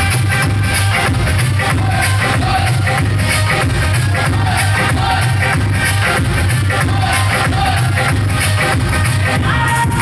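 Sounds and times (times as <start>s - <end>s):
bass-heavy dance music: 0.0s - 10.0s.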